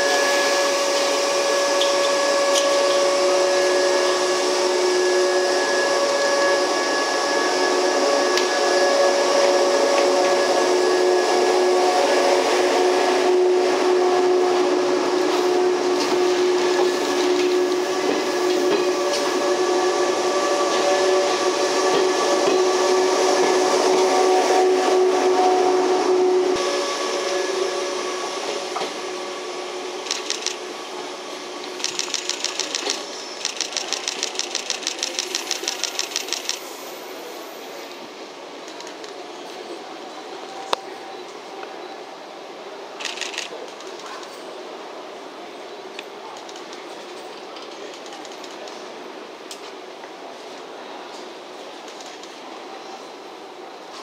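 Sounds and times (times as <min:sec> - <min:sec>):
train wheels rolling: 0:00.0 - 0:37.2, 0:45.9 - 0:52.8
electric train equipment humming: 0:00.0 - 0:54.0.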